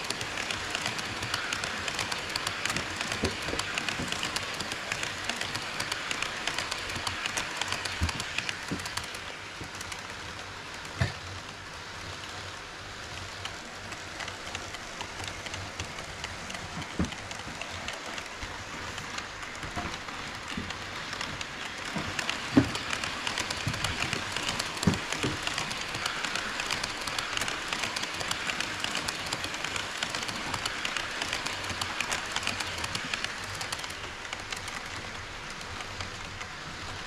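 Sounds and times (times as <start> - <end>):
model train rolling on rails: 0.0 - 37.0.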